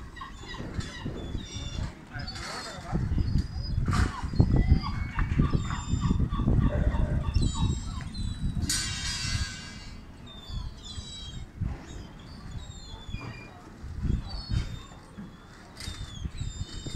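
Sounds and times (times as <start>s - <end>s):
gulls calling: 0.0s - 16.9s.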